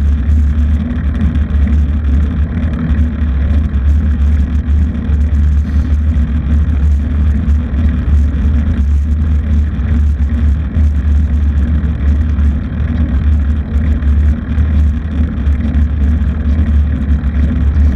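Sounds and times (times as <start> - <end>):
vehicle engine running: 0.0 - 17.9
wind rumble on microphone: 0.0 - 17.9.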